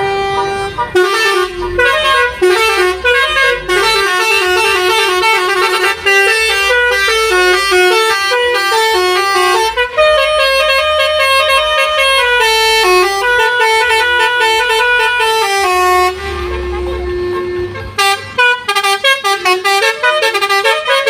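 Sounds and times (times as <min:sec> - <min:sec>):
musical vehicle horn playing a tune: 0:00.0 - 0:21.0.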